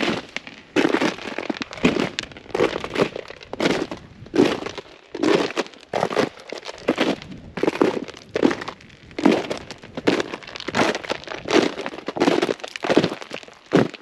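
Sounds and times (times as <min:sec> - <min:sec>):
footsteps crunching on ice crust: 0:00.0 - 0:14.0.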